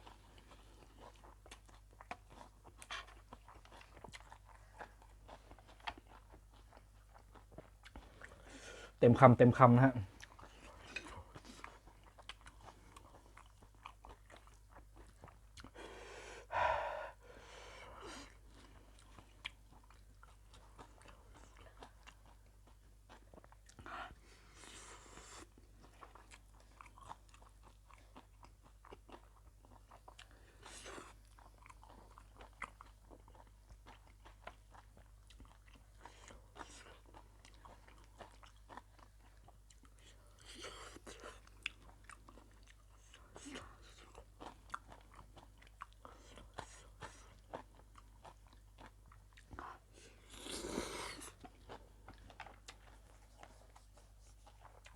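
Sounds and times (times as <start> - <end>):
person chewing and biting food: 0.0 - 8.5, 10.2 - 15.8, 24.5 - 54.9.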